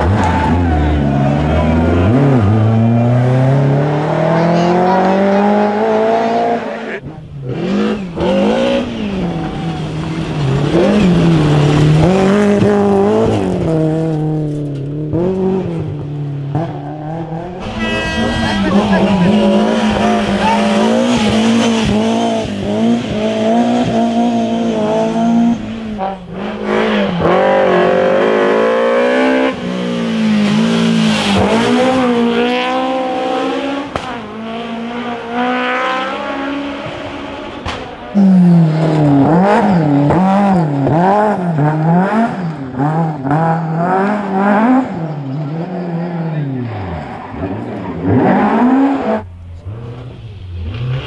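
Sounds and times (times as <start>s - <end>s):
rally car engines at full throttle: 0.0s - 51.0s.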